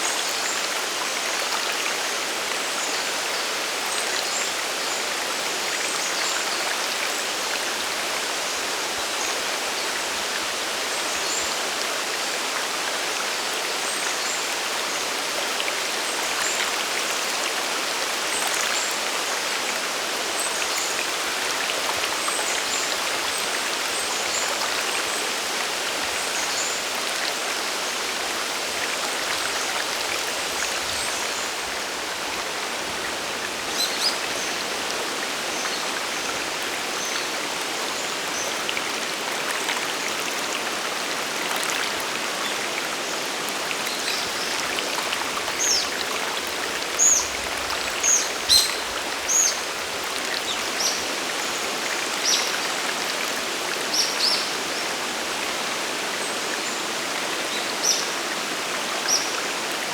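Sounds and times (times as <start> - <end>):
stream and waterfall rushing: 0.0 - 59.9.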